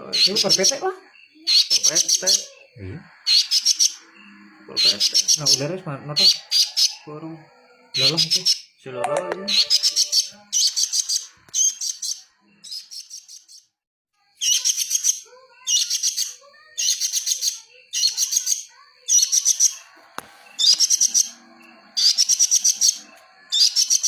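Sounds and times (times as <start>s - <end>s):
songbird chattering: 0.0s - 8.7s, 9.4s - 13.6s, 14.4s - 20.0s, 20.6s - 24.0s.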